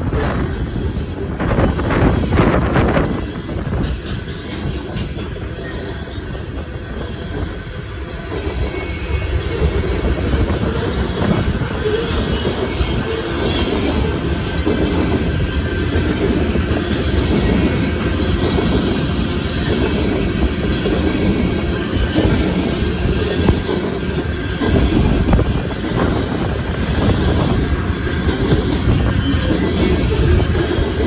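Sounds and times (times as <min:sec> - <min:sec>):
freight train wheels rumbling on rails: 0:00.0 - 0:31.0.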